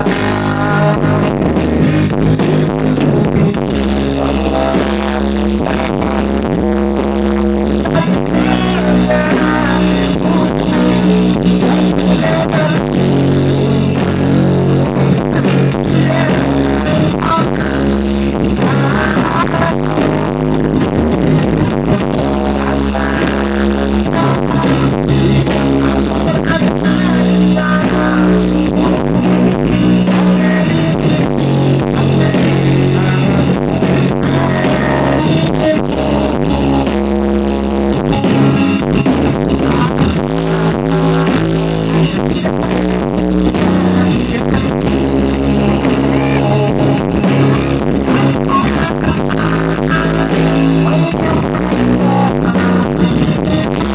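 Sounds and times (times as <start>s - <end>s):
heavy bass notes: 0.0s - 53.9s
loud song through sound system: 0.0s - 53.9s.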